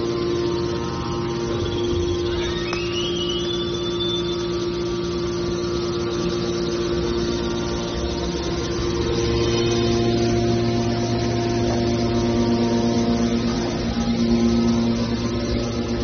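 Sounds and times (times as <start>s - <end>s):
high rising whine: 0.0s - 16.0s
hydraulic pump motor humming: 0.0s - 16.0s.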